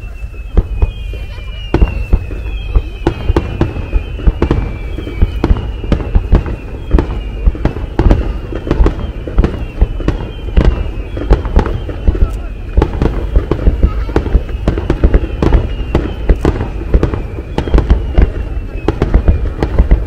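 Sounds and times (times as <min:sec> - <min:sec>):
high falling whistling tones: 0:00.0 - 0:20.0
firework shells bursting: 0:00.1 - 0:20.0.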